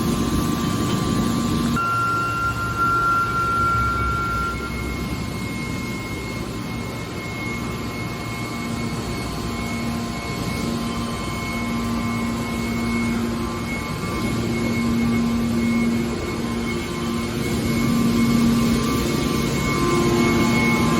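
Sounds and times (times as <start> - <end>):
high whine: 0.0 - 20.9
hydraulic baler machine drone: 0.0 - 20.9
low hum: 0.0 - 20.9.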